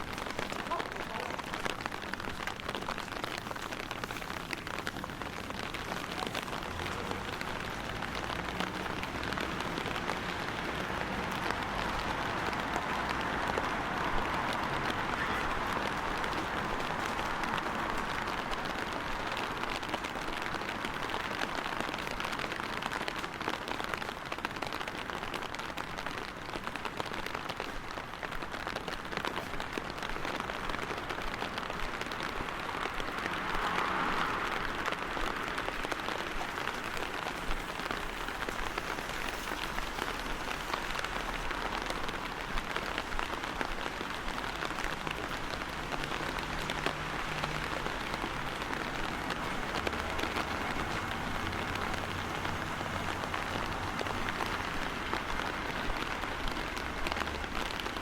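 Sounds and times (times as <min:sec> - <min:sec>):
rain pattering on hard surfaces: 0:00.0 - 0:58.0.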